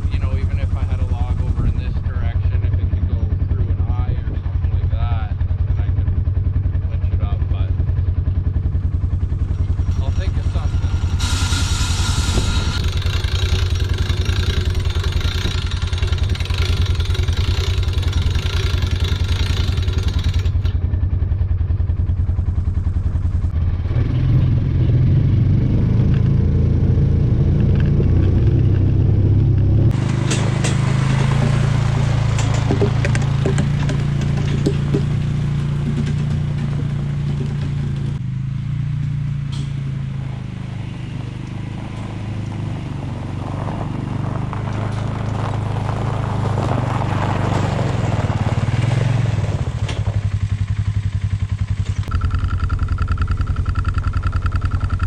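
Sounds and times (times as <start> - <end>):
vehicle engine idling and revving: 0.0 - 55.0.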